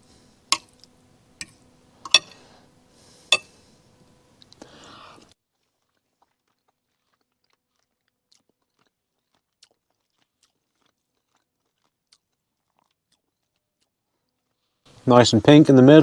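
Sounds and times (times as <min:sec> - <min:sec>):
person chewing food: 0:00.0 - 0:14.8.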